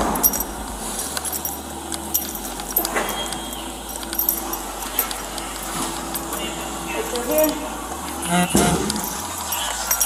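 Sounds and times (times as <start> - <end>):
metal gear jangling: 0.0 - 10.0
steady hum: 0.0 - 10.0.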